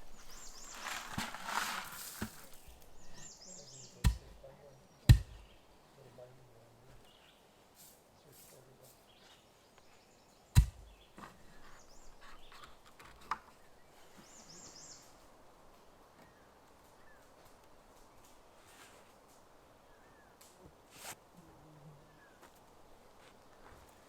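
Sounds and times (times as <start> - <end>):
faint bird singing: 0.0 - 1.2, 2.4 - 18.4, 19.7 - 20.7, 21.3 - 24.0.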